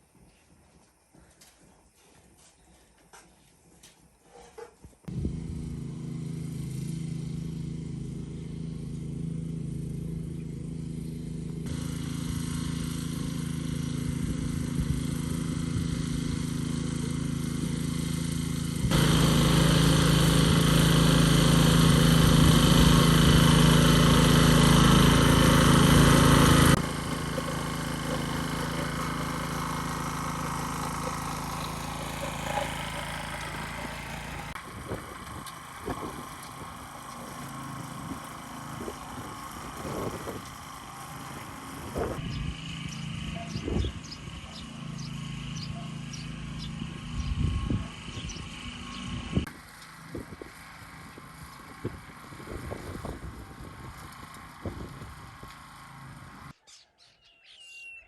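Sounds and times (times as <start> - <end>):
farm machine engine humming: 5.1 - 56.6.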